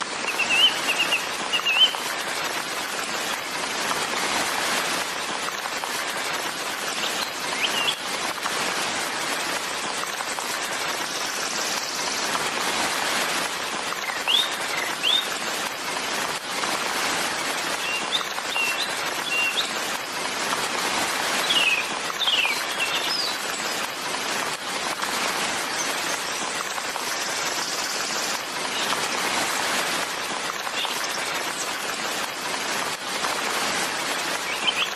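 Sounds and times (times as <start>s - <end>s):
rain hissing: 0.0s - 34.9s.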